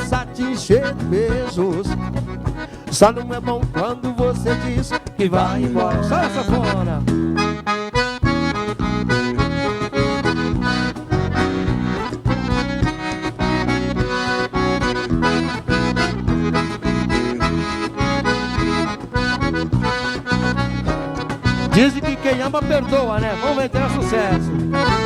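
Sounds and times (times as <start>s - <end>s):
accordion: 0.0s - 25.0s
live band music: 0.0s - 25.0s.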